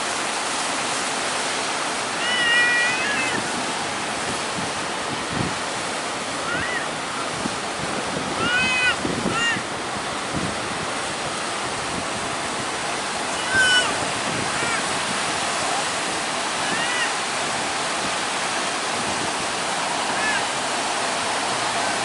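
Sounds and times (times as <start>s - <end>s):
heavy surf: 0.0s - 22.0s
strong wind: 0.0s - 22.0s.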